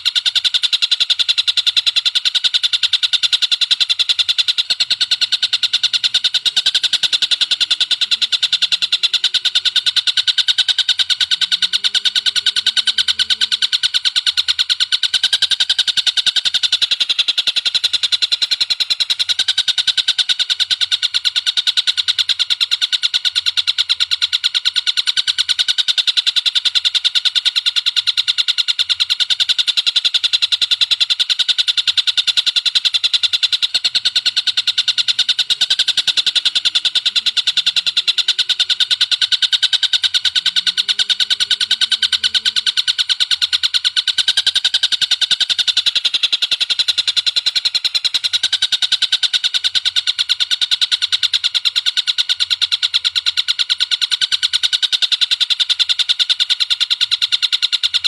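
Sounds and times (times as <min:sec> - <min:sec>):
bird rattling high chips: 0:00.0 - 0:57.8.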